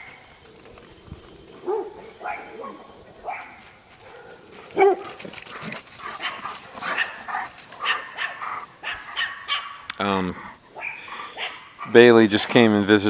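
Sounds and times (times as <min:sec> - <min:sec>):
puppies barking: 0:00.0 - 0:09.9, 0:10.6 - 0:12.6.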